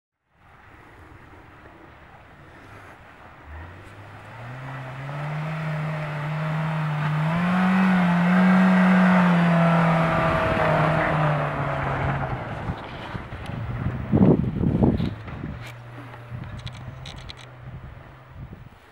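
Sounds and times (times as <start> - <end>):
car engine pulling hard: 3.0 - 18.6.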